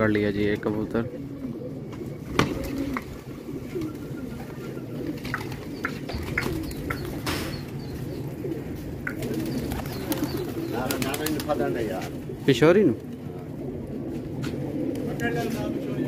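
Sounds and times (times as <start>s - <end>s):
pigeons cooing: 0.0s - 16.0s
wings flapping: 1.8s - 15.8s.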